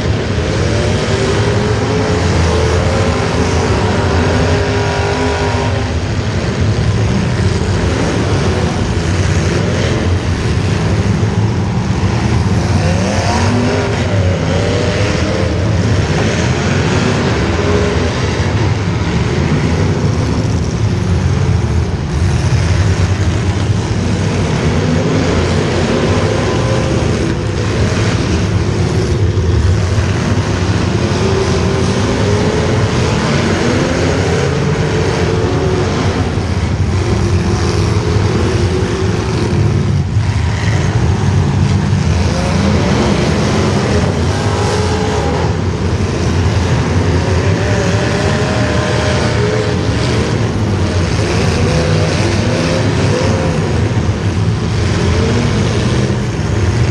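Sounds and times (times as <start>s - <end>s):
several engines revving: 0.0s - 56.9s.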